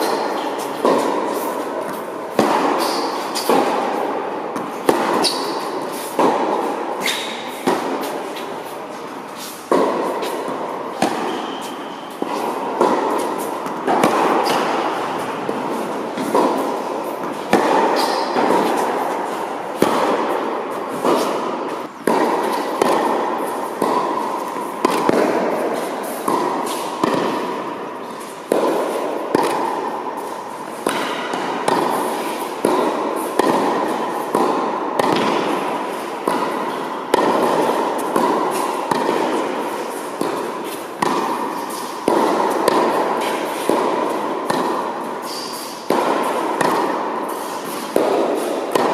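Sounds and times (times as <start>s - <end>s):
tennis ball bouncing on court: 0.0s - 48.9s
tennis racket strikes: 0.0s - 48.9s.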